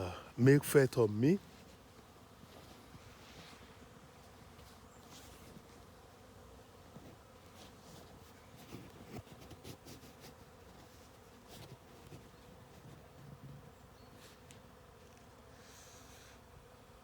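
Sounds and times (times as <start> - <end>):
honeybees humming: 0.0 - 9.0, 10.0 - 17.0.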